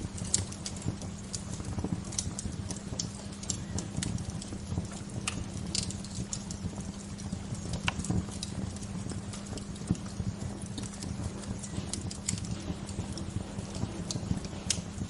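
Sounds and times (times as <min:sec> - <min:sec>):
low steady rumbling: 0:00.0 - 0:15.0
wood fire crackling and popping: 0:00.0 - 0:15.0.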